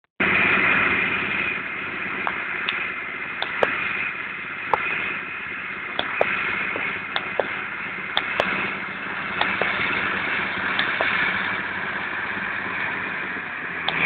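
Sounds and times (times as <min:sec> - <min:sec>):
tractor diesel engine under load: 0:00.2 - 0:14.0.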